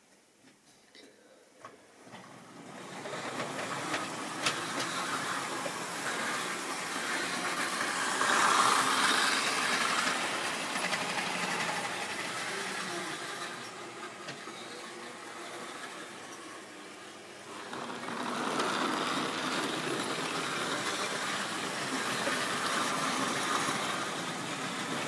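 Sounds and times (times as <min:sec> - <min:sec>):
wheels clicking over rails: 0:02.0 - 0:25.0
whirring electric motor: 0:02.6 - 0:25.0.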